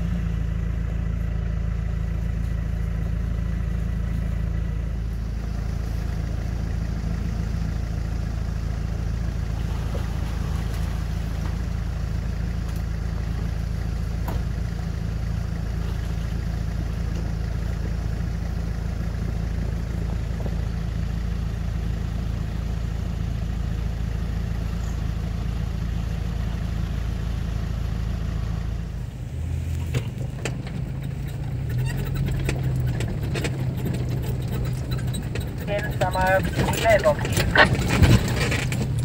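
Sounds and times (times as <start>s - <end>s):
vehicle knocking and rattling: 0.0s - 28.2s, 29.7s - 39.0s
off-road engines running: 0.0s - 39.0s.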